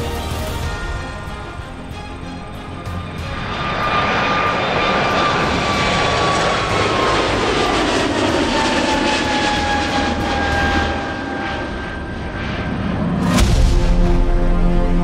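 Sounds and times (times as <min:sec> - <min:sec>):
jet engine whine: 0:00.0 - 0:15.0
jet roar: 0:00.0 - 0:15.0.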